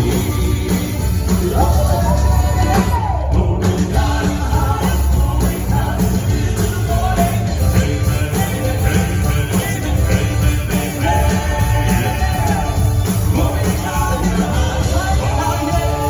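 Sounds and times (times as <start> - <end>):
band with bass and drums: 0.0 - 16.0
male quartet singing gospel: 0.0 - 16.0.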